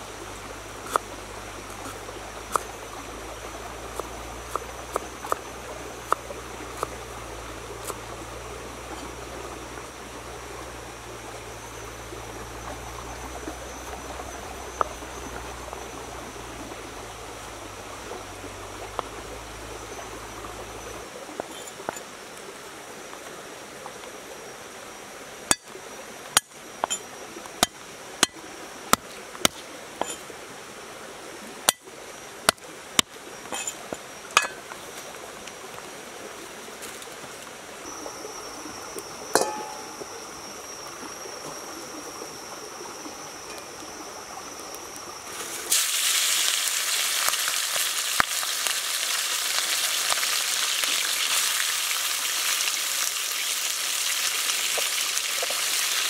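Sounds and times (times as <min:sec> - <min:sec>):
river stream running: 0:00.0 - 0:56.0.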